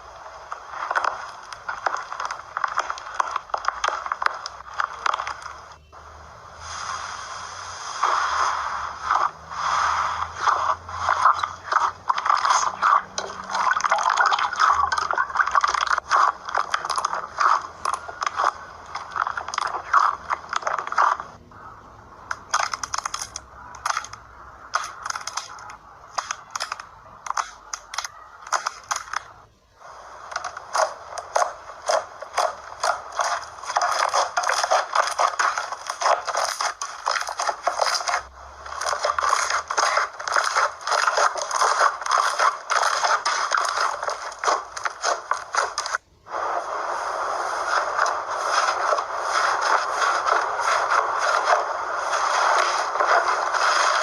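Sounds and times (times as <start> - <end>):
slime crackling and popping: 0.0 - 6.0, 6.6 - 21.4, 22.3 - 29.5, 30.1 - 54.0.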